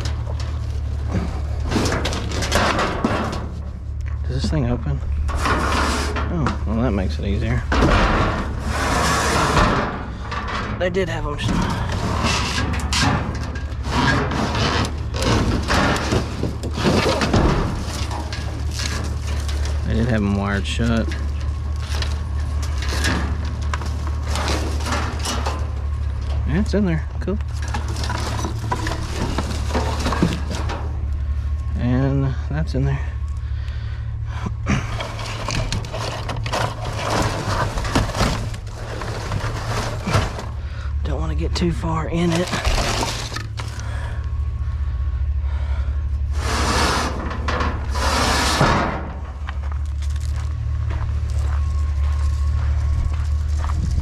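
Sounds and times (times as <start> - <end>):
junk scraping and rattling: 0.0 - 54.0
low rumble: 0.0 - 54.0
steady low hum: 0.0 - 54.0.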